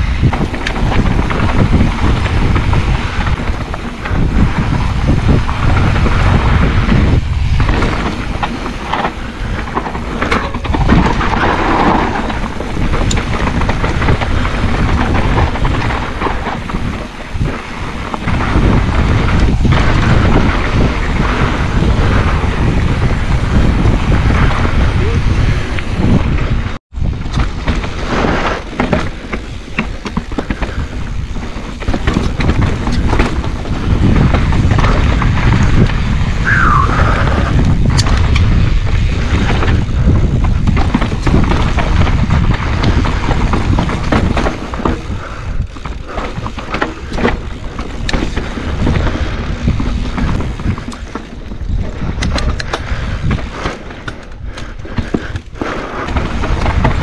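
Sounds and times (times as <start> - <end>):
bike rattling over bumps: 0.0 - 57.0
tyres on dirt and rock: 0.0 - 57.0
wind rumbling on microphone: 0.0 - 57.0.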